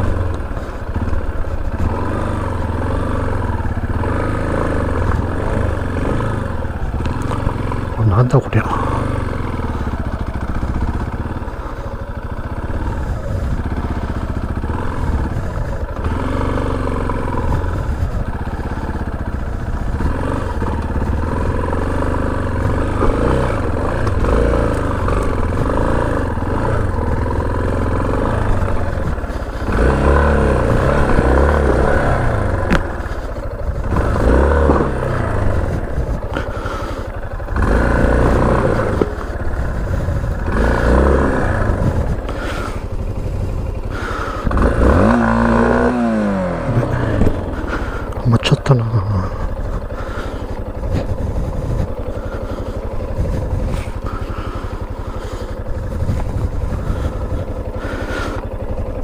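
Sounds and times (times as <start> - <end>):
clatter from rough road: 0.0 - 59.0
motorcycle engine revving: 0.0 - 59.0.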